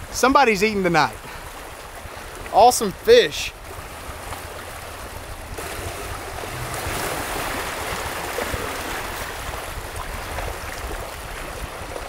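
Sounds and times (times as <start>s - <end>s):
water washing against rocky shore: 0.0s - 12.0s
wind gusting across microphone: 0.0s - 12.0s.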